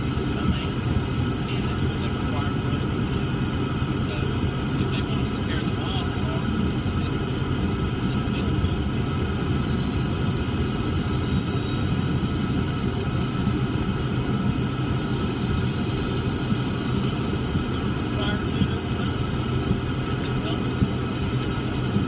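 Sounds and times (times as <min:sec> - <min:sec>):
propeller plane engines droning: 0:00.0 - 0:22.0.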